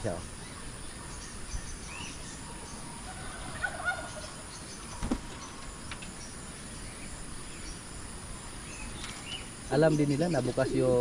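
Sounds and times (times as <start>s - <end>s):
bird calls: 0.0s - 11.0s
outdoor background hiss: 0.0s - 11.0s.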